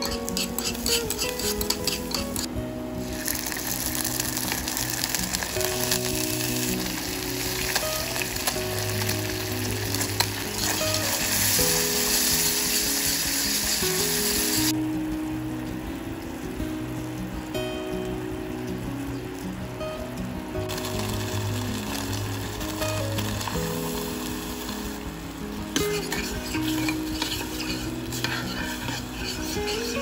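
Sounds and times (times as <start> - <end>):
sauce sizzling in a pot: 0.0 - 30.0
soft background music: 0.0 - 30.0.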